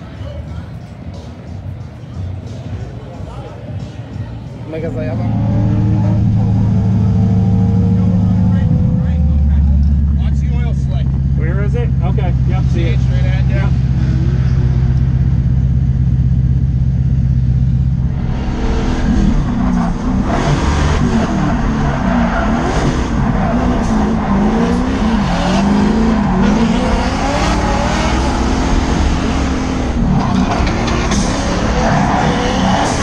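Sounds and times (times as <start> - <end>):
car engine revving: 4.8 - 33.0.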